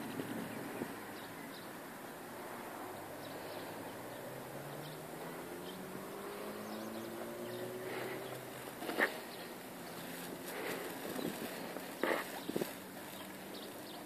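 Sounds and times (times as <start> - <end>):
traffic noise: 0.0 - 14.0
vehicle engine accelerating: 2.3 - 14.0.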